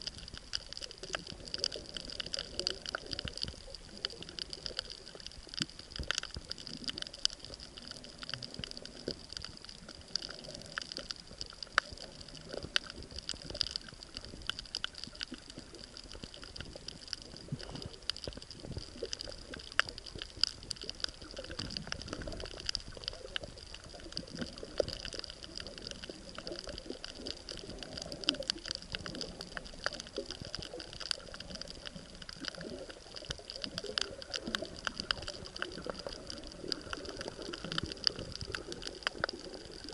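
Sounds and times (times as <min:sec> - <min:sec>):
crackle of small clicks: 0:00.0 - 0:39.9
wash of moving water: 0:00.0 - 0:39.9.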